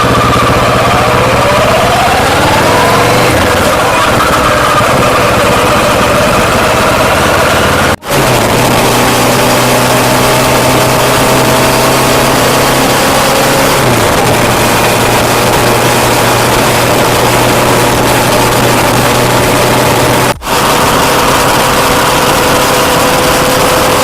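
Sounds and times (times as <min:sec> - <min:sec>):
motorcycle engine running loud: 0:00.0 - 0:24.0.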